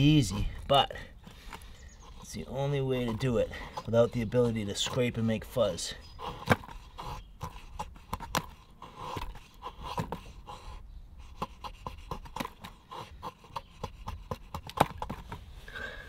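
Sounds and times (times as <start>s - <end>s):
blade shaving wood: 1.3s - 15.3s.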